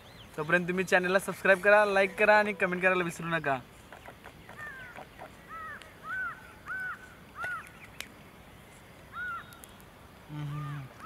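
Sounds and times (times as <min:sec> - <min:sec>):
bird calling: 0:00.0 - 0:08.1, 0:09.1 - 0:09.7, 0:10.3 - 0:11.0.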